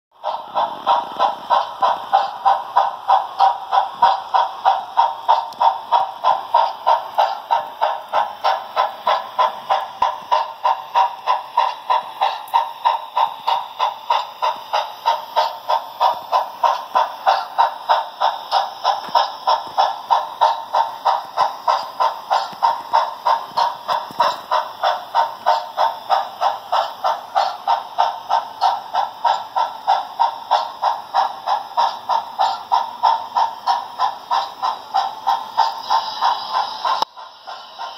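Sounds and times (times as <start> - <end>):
thin steam exhaust chuffs: 0.2 - 37.9.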